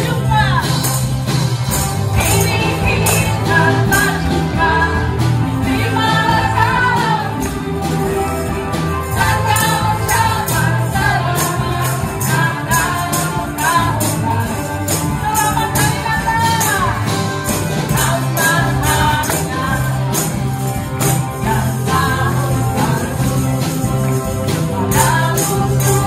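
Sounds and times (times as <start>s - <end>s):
gospel band playing: 0.0s - 26.0s
group singing: 2.1s - 26.0s.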